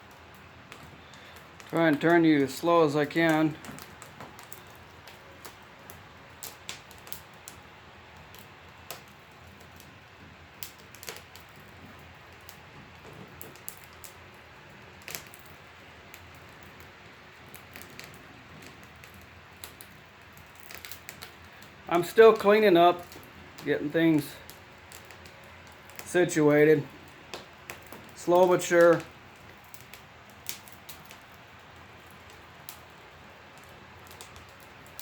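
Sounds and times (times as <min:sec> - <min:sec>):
sharp pops and ticks: 0:00.0 - 0:35.0
wood fire crackling: 0:00.0 - 0:35.0.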